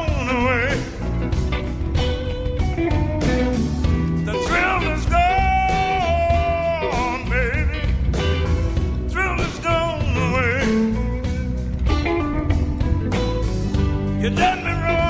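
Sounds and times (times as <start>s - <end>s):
blues-rock song with singer: 0.0s - 15.0s.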